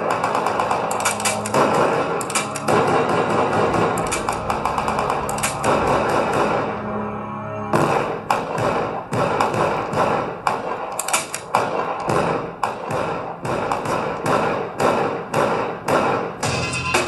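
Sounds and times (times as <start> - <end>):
steady background wash: 0.0 - 16.6.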